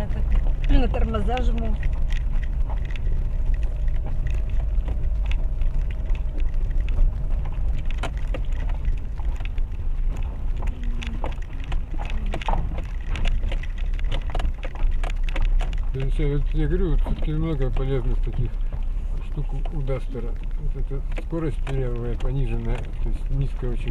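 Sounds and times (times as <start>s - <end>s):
car low rumble: 0.0s - 23.9s
wheels knocking over stones: 0.0s - 23.9s.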